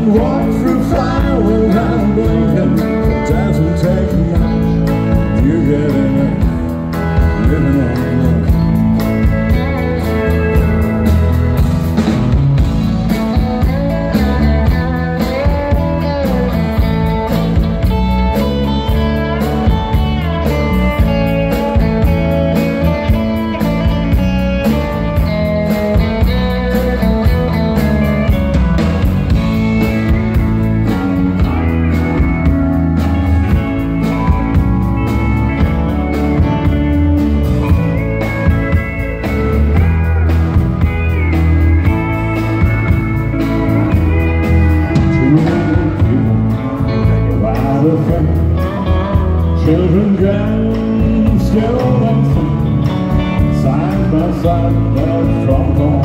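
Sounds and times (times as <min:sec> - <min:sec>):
country band playing: 0:00.0 - 0:56.0
lead guitar melody: 0:00.0 - 0:56.0
steady drum beat: 0:00.0 - 0:56.0.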